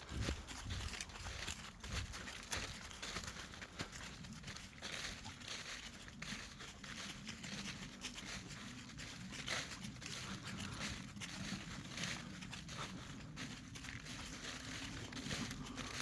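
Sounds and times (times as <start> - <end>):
footsteps crunching through leaves: 0.0 - 16.0.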